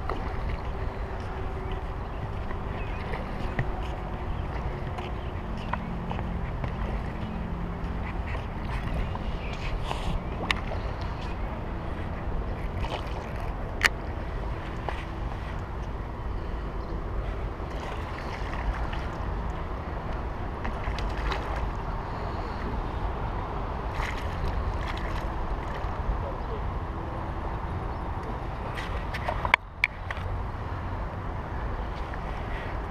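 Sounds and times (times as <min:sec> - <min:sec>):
rushing water: 0:00.0 - 0:32.9
wind on microphone: 0:00.0 - 0:32.9.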